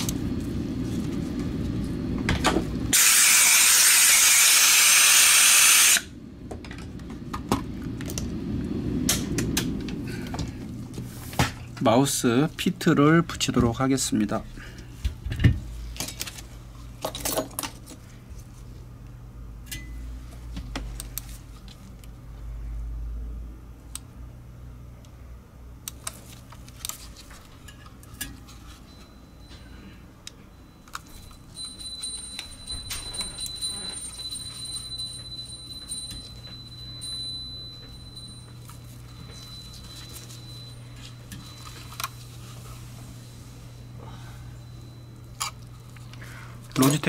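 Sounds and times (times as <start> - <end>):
steady low hum: 0.0 - 3.0, 6.0 - 47.0.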